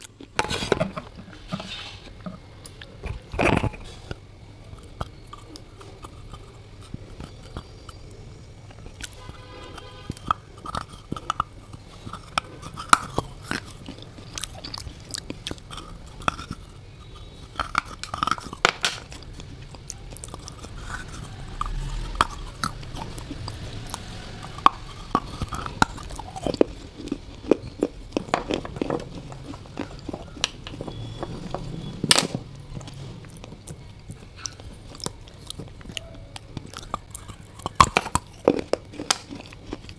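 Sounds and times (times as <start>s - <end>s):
person chewing brittle pieces: 0.0s - 39.9s.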